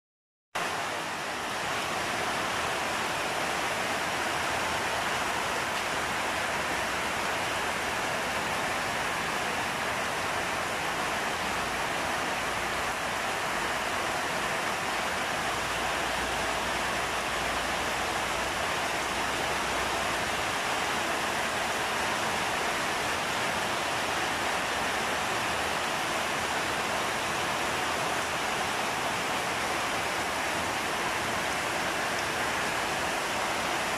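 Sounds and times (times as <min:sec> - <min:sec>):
heavy rain on foliage: 0:00.6 - 0:33.9.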